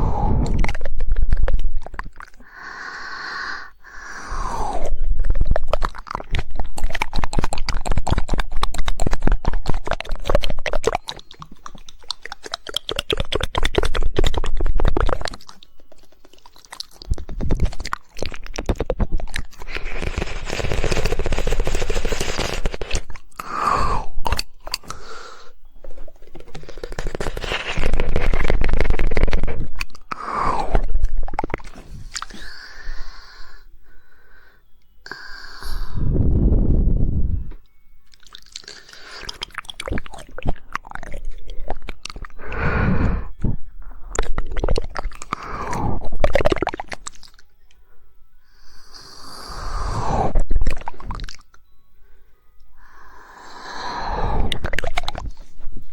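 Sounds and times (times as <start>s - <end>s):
wet mouth and lip sounds: 0.0s - 33.5s, 38.1s - 47.6s, 48.8s - 51.6s, 53.7s - 55.9s
rapid tongue clicking: 0.0s - 33.6s, 38.1s - 47.5s, 48.6s - 51.7s, 52.8s - 55.9s.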